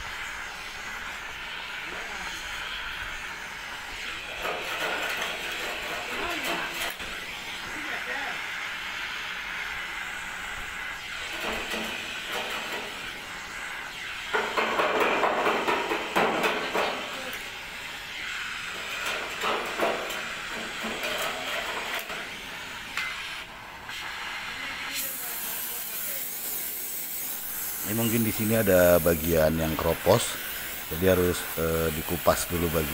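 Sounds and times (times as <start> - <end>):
cutting torch hissing: 0.0 - 32.9.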